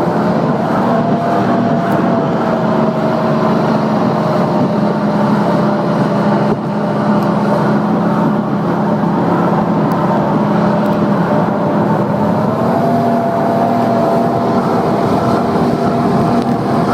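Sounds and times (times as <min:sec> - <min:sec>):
jet ski engine running: 0:00.0 - 0:16.9
rushing water noise: 0:00.0 - 0:16.9.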